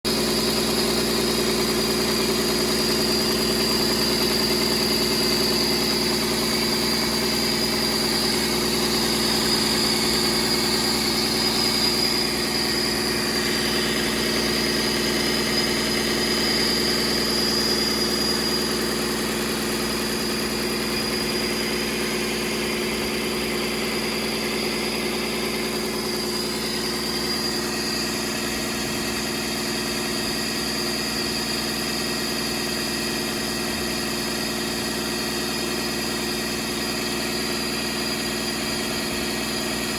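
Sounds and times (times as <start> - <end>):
diesel engine idling: 0.1 - 39.9.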